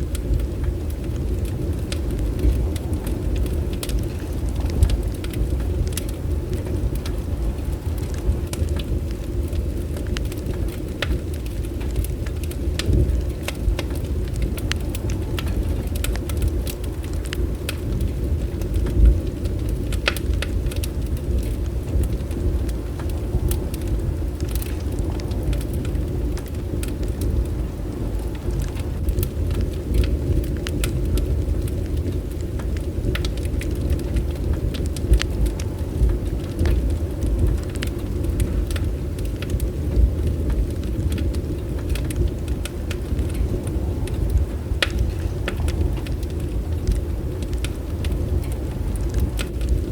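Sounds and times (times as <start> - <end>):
bonfire low rumble: 0.0 - 49.9
burning wood crackling and popping: 0.0 - 49.9.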